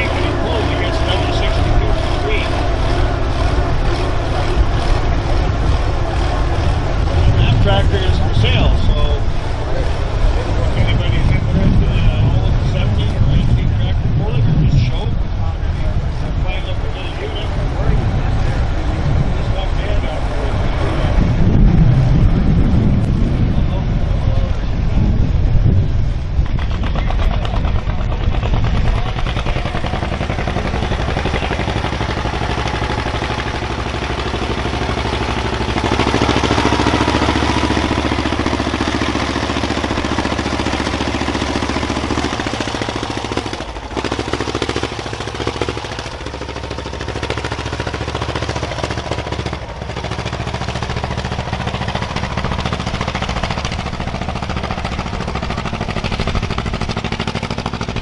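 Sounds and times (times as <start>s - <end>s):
heavy engine under load: 0.0s - 58.0s.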